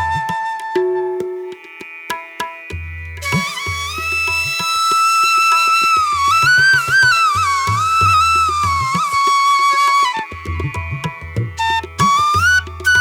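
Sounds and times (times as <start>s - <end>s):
flute melody with bending notes: 0.0s - 1.6s, 3.2s - 10.8s, 11.6s - 13.0s.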